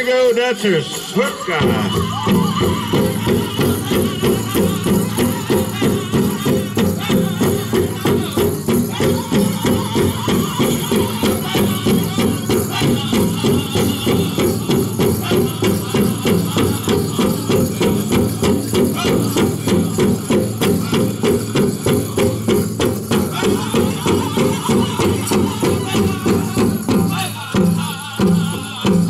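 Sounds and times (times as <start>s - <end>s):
drum group playing fast beat: 0.0s - 29.0s
leg bells jingling: 0.0s - 29.0s.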